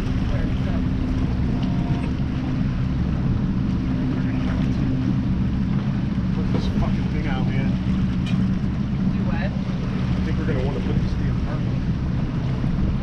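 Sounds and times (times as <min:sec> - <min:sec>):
steady low hum: 0:00.0 - 0:13.0
water rushing past hull: 0:00.0 - 0:13.0
wind buffeting microphone: 0:00.0 - 0:13.0.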